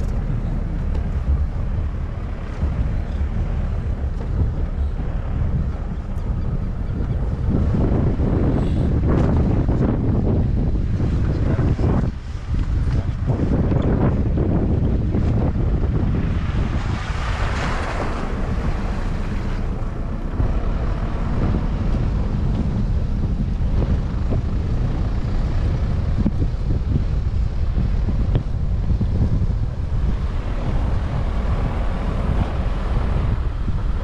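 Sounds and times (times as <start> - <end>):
surf washing in: 0.0 - 34.0
wind buffeting microphone: 0.0 - 34.0.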